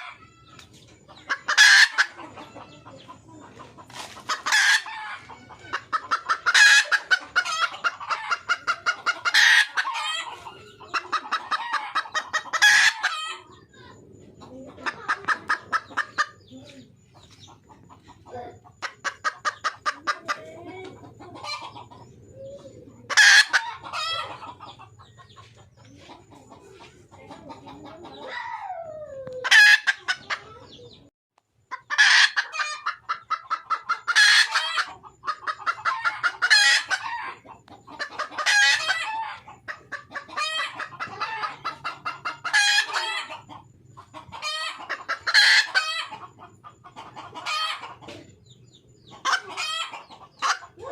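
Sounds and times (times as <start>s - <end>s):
hen cackling calls: 0.0s - 0.6s, 1.2s - 25.5s, 26.1s - 31.0s, 31.7s - 48.4s, 49.0s - 50.9s.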